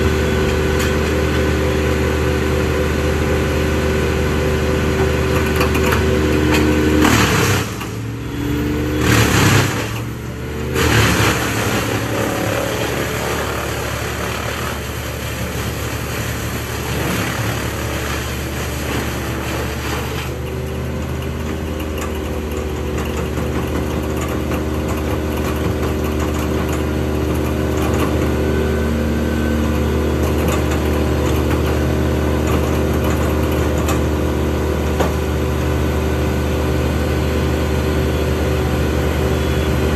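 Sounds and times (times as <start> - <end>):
diesel engines running: 0.0 - 39.9
wood chipper surging: 0.0 - 39.9.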